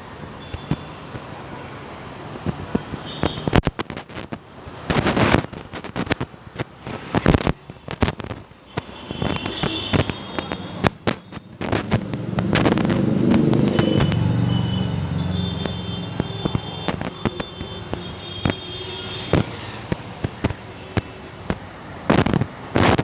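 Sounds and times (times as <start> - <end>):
firecrackers popping: 2.4 - 23.0.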